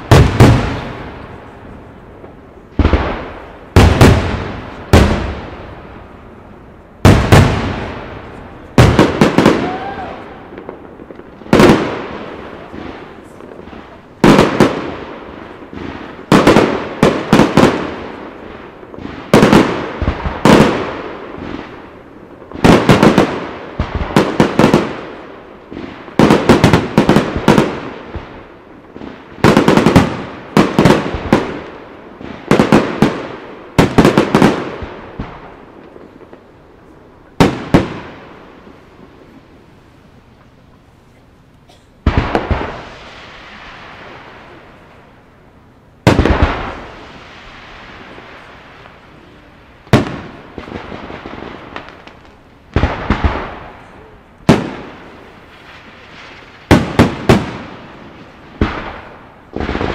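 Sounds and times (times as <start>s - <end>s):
fireworks bursting with sharp bangs: 0.0s - 59.9s.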